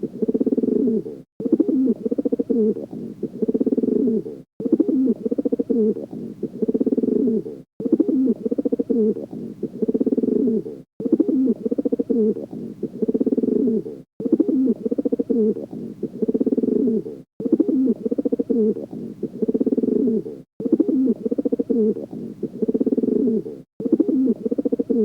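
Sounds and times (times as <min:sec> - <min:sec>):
pigeon cooing: 0:00.0 - 0:25.0.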